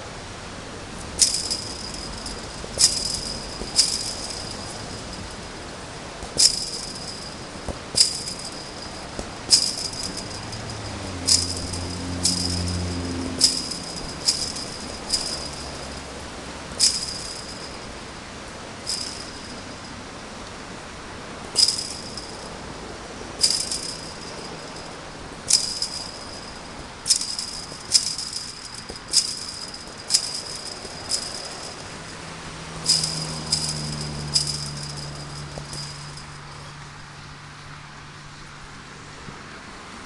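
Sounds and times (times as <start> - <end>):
fence wire rattling: 1.0 - 20.0, 21.4 - 22.6, 23.3 - 36.7
ball striking chain-link fence: 1.2 - 20.0, 21.4 - 22.6, 23.2 - 36.7.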